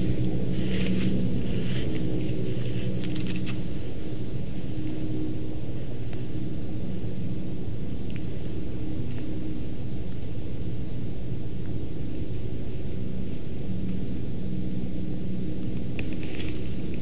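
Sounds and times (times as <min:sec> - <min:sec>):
steady rushing noise with hum: 0:00.0 - 0:17.0.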